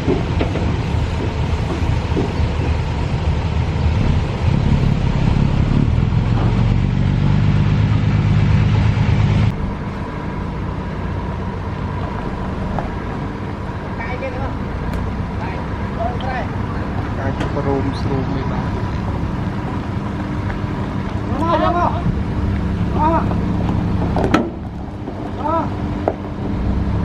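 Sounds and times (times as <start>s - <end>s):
construction machinery diesel engine: 0.0s - 27.0s.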